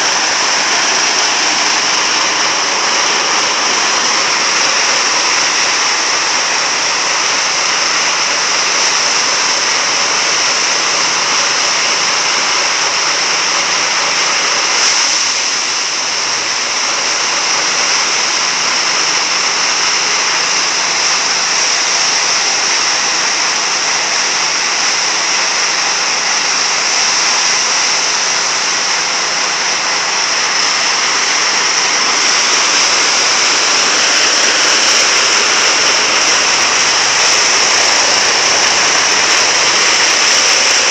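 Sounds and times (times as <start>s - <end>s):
threshing machine running: 0.0s - 40.9s.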